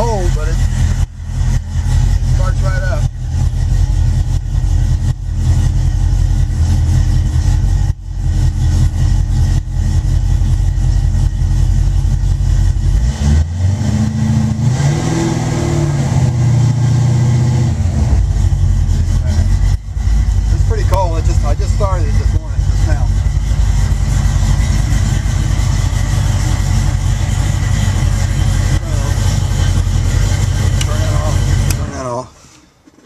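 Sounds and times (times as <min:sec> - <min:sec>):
car engine revving: 0:00.0 - 0:32.3.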